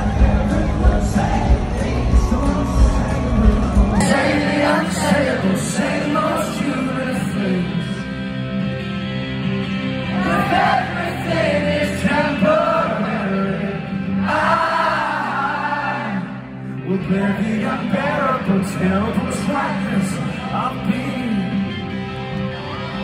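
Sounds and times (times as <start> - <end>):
man singing: 0.0 - 8.2, 10.5 - 21.8
rock band playing: 0.0 - 14.6, 16.6 - 23.0.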